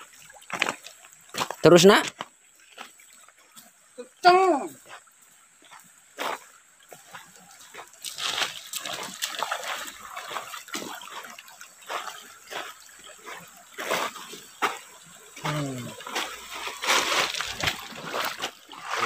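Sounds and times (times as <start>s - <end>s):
footsteps on river gravel: 0.0s - 19.0s
splashing through shallow stream: 0.0s - 19.0s.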